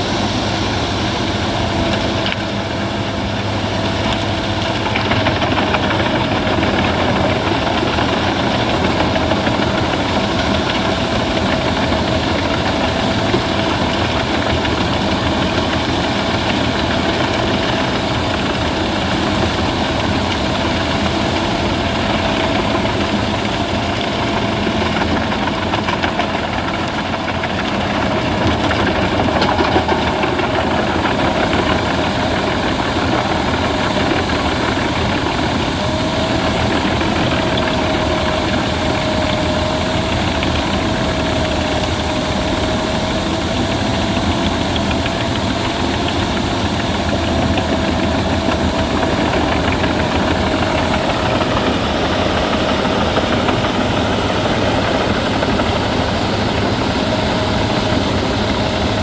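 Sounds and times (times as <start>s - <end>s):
wood chipper chipping branches: 0.0s - 59.0s.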